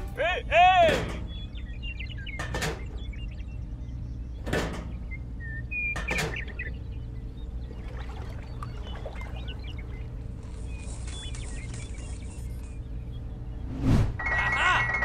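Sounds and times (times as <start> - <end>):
steady low hum: 0.0 - 14.2
birds chirping: 0.0 - 15.0.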